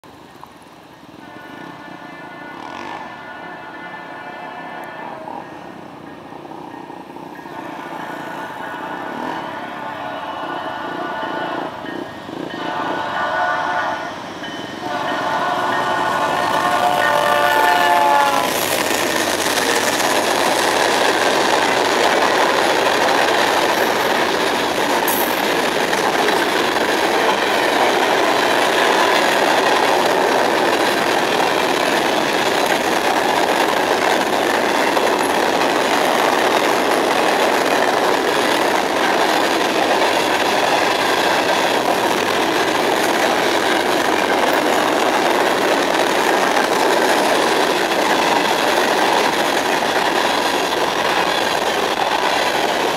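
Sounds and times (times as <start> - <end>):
freight train wheels on rails: 0.0 - 52.9.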